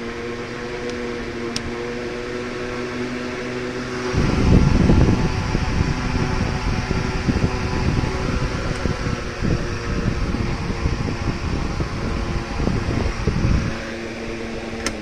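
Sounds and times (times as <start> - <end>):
air cooler fan humming: 0.0 - 15.0
airflow gusting on microphone: 0.0 - 15.0.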